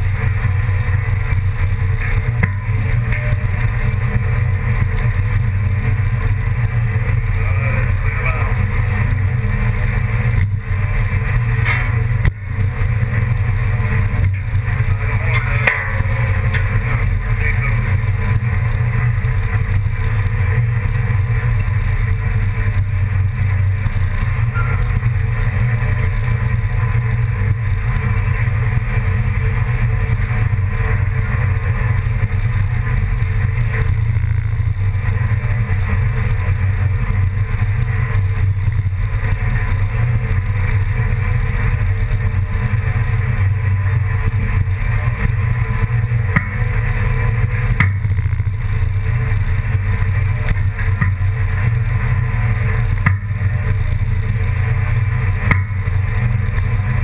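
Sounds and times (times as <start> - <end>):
low engine drone: 0.0 - 57.0.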